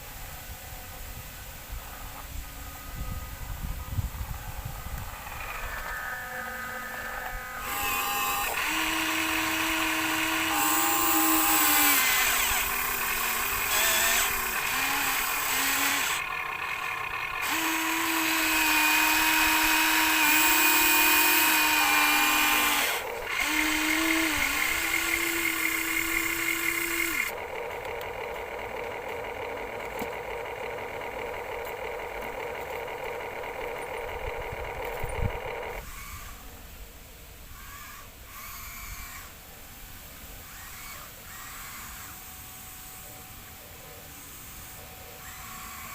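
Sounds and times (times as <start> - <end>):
toy electric motors whining: 1.9 - 36.6, 37.5 - 39.4, 40.4 - 45.9.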